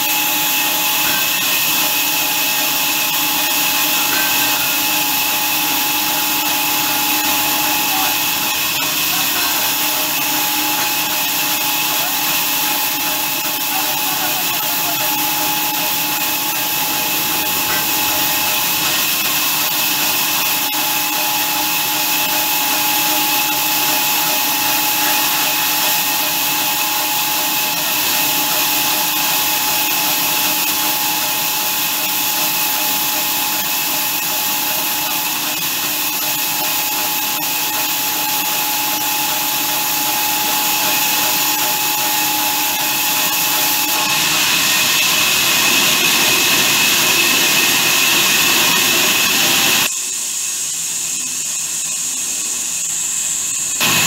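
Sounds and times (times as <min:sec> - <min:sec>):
band saw whine and hiss: 0:00.0 - 0:54.0.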